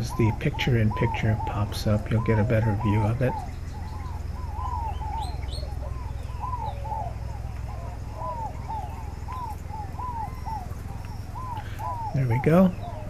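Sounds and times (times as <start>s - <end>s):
birds calling: 0.0s - 13.0s
high bird chirps: 0.0s - 13.0s
steady low rumble: 0.0s - 13.0s.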